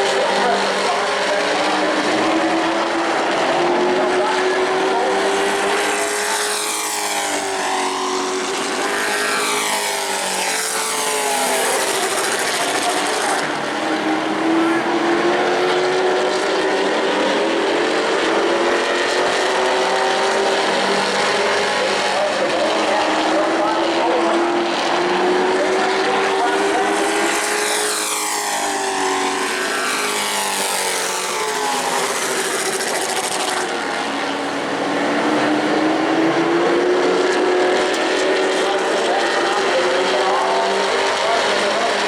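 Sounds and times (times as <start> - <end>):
trucks racing past: 0.0 - 42.0.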